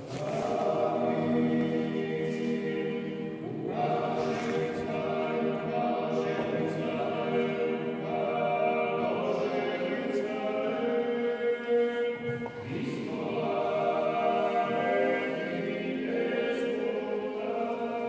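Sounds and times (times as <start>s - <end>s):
choir singing liturgical chant: 0.0s - 18.0s.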